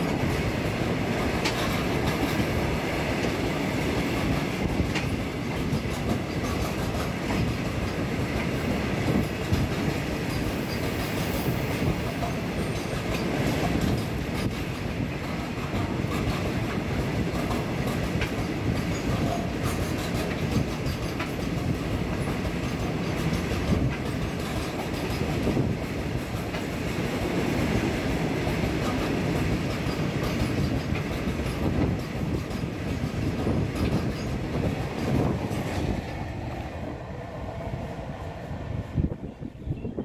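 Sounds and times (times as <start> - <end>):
train wheels clacking over rail joints: 0.0 - 36.8.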